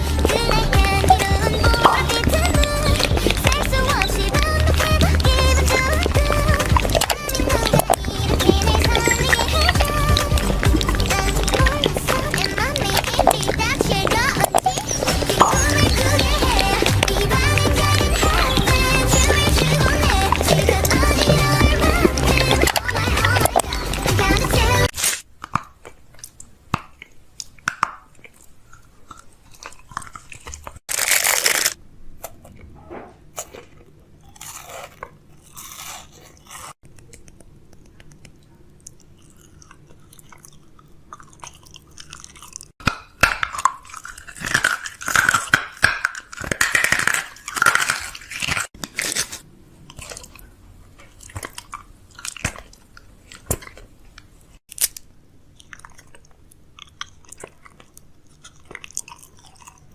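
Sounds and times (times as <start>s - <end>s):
chewing crisp food: 0.0s - 32.7s, 33.3s - 59.9s.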